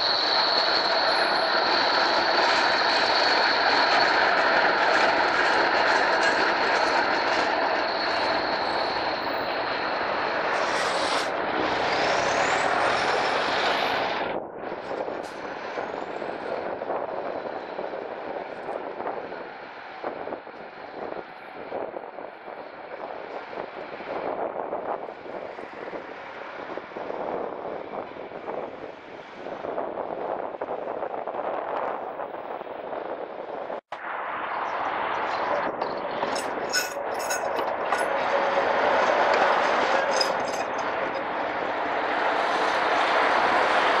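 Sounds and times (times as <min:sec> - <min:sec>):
tram wheels rumbling on rail: 0:00.0 - 0:44.0.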